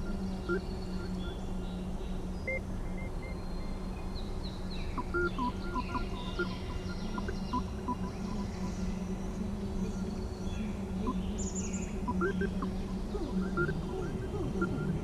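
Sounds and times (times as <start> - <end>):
chirping tones and bird-like calls: 0.0 - 2.6, 3.2 - 15.0
steady low hum: 0.0 - 15.0.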